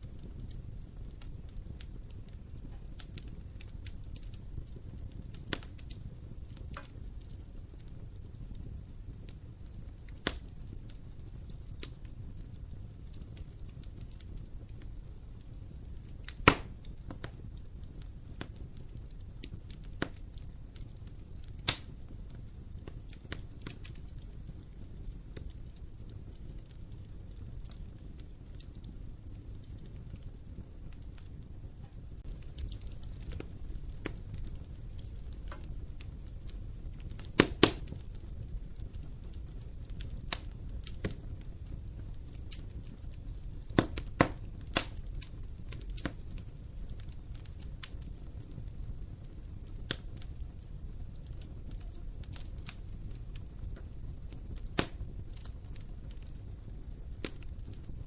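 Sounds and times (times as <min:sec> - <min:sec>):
fire low rumble: 0:00.0 - 0:58.0
wood fire crackling and popping: 0:00.0 - 0:58.0.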